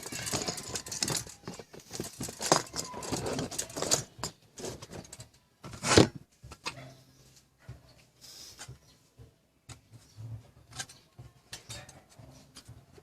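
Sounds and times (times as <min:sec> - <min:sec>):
tools rubbing clicking and scraping: 0:00.0 - 0:07.5, 0:09.7 - 0:13.0.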